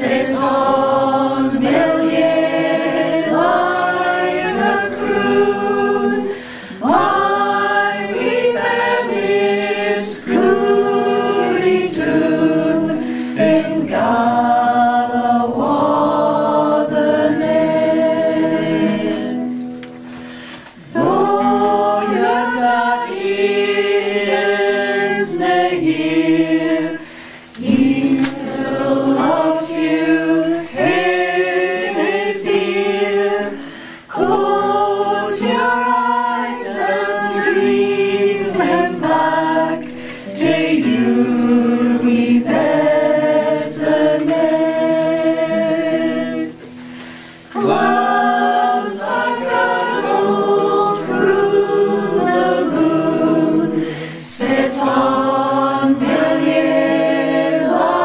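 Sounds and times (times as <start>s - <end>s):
choir singing a lullaby: 0.0s - 58.0s.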